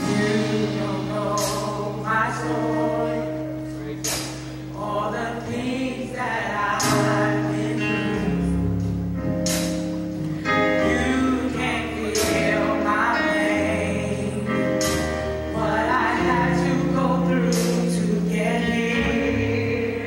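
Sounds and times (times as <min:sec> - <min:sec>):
gospel song singing: 0:00.0 - 0:20.0
instrumental accompaniment: 0:00.0 - 0:20.0
steady bass line: 0:00.0 - 0:20.0.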